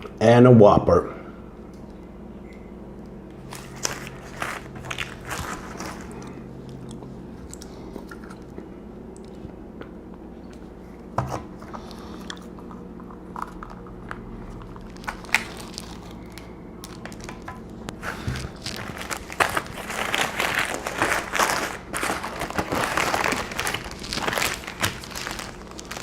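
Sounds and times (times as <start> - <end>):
steady low hum: 0.0 - 26.0
person chewing burger: 3.4 - 26.0.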